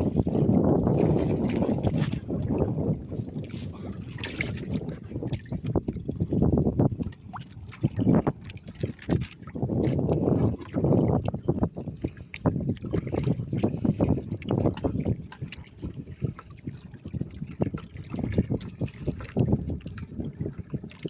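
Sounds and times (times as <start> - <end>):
water splashing against boat: 0.0 - 21.0.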